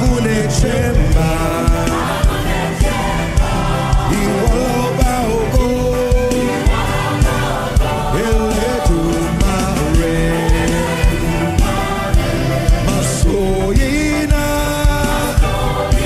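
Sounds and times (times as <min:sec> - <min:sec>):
bass: 0:00.0 - 0:16.0
choir singing: 0:00.0 - 0:16.0
steady drum beat: 0:00.0 - 0:16.0.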